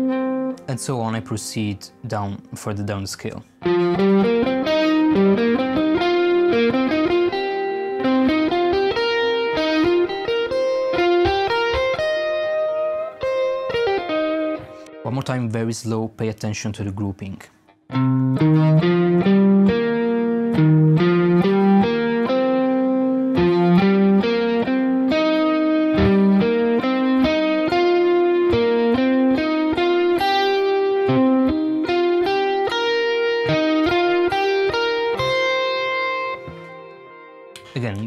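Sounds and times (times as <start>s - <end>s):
electric guitar single notes: 0.0s - 15.1s, 17.6s - 37.8s.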